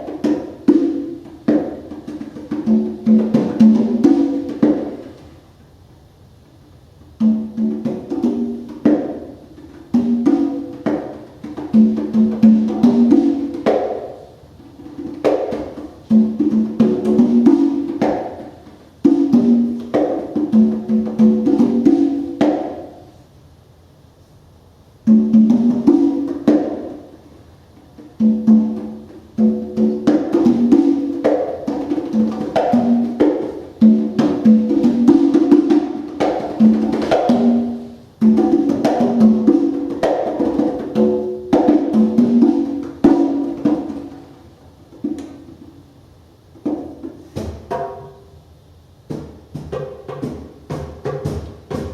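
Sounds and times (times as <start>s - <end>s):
congas played by hand: 0.0s - 23.3s, 24.9s - 51.9s.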